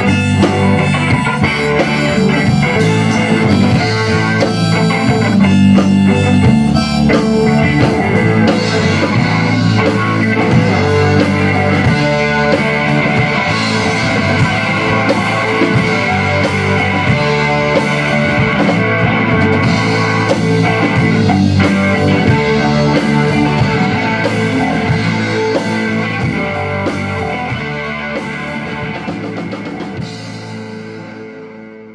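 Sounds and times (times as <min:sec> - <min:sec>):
drum kit: 0:00.0 - 0:31.9
electric bass: 0:00.0 - 0:31.9
electric guitar: 0:00.0 - 0:31.9
rock band playing live: 0:00.0 - 0:31.9.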